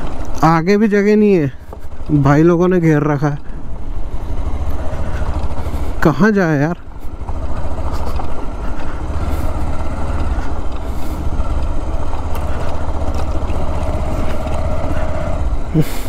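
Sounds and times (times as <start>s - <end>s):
motorcycle engine low rumble: 0.0s - 16.0s.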